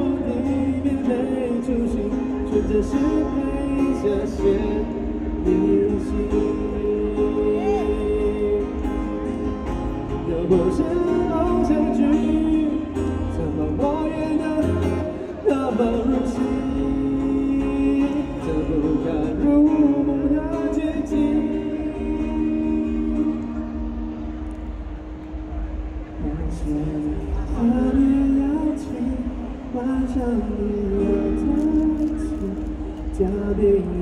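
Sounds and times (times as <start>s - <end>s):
man singing pop ballad: 0.0s - 23.9s, 26.1s - 34.0s
acoustic guitar strumming: 0.0s - 34.0s.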